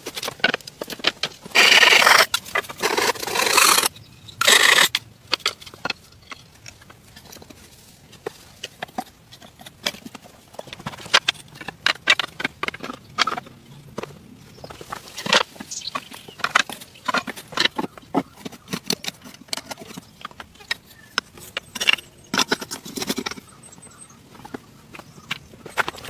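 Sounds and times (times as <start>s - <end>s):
sharp clicks and knocks: 0.0s - 26.0s.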